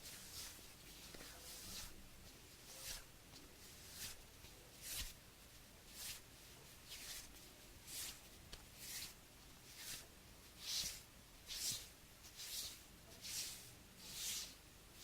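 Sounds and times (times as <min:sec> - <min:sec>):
hands rubbing: 0:00.0 - 0:02.0, 0:02.6 - 0:05.2, 0:05.9 - 0:14.6.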